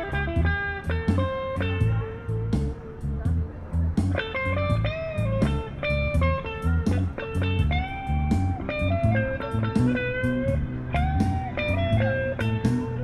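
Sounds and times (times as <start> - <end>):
instrumental music with beat: 0.0 - 13.0.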